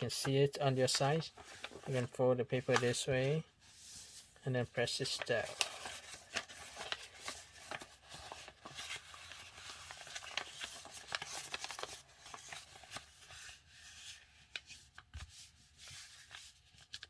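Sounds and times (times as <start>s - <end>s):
paper being folded: 0.0s - 17.0s.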